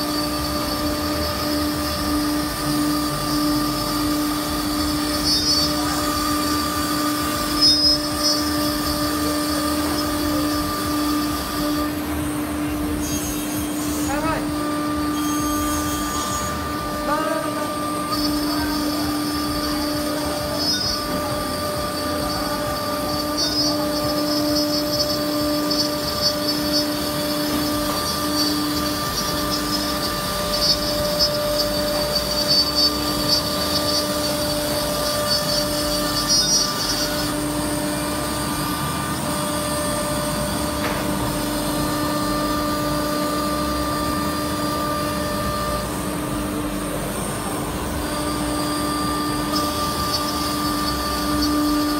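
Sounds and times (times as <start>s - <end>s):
router spindle whine: 0.0s - 51.9s.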